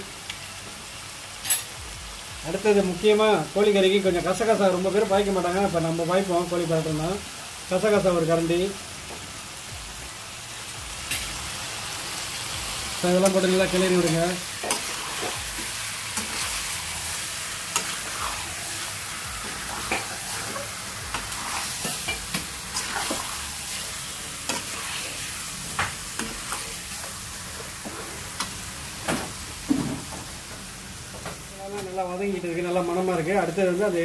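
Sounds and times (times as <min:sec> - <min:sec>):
food sizzling in frying pan: 0:00.0 - 0:34.0.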